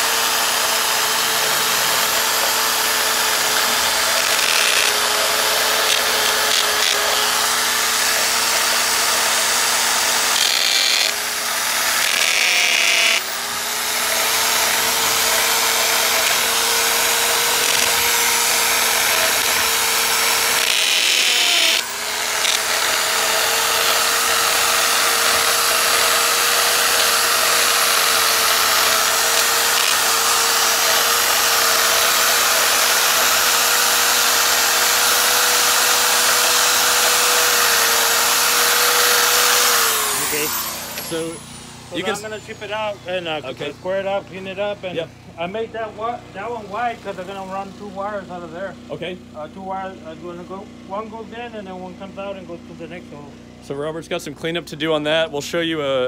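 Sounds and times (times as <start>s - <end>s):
power drill grinding into block: 0.0s - 45.7s.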